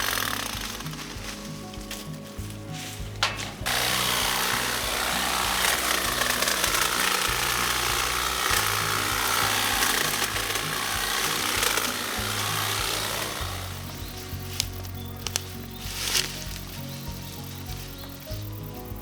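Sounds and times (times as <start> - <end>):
background music: 0.0 - 19.0
hedge trimmer cutting branches: 0.0 - 19.0.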